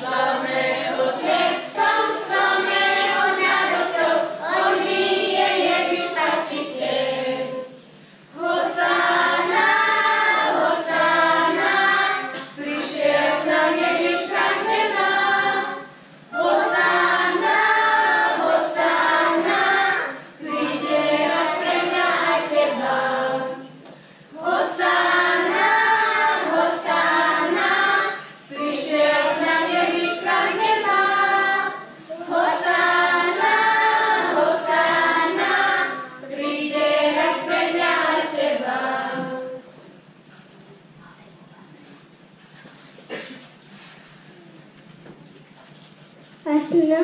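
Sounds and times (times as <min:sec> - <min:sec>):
children's choir singing: 0:00.0 - 0:40.1.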